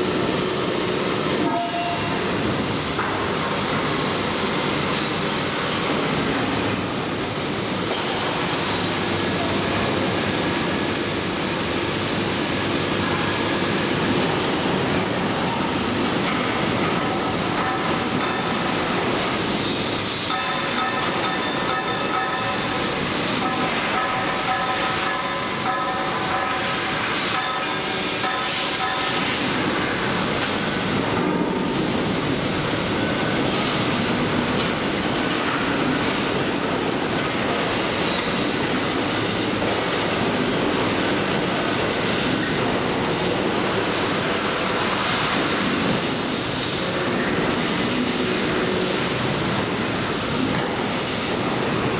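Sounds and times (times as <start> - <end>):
train rumbling on rails: 0.0 - 51.9.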